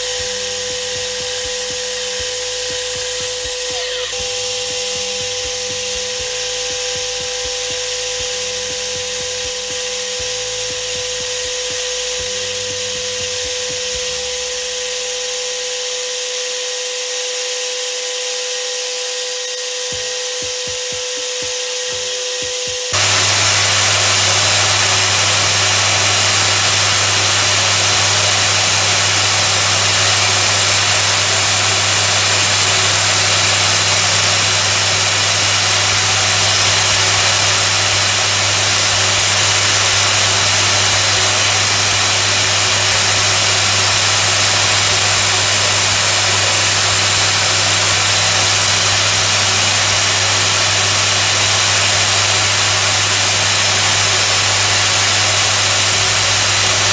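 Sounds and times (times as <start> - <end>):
grinding wheel high hiss: 0.0 - 56.9.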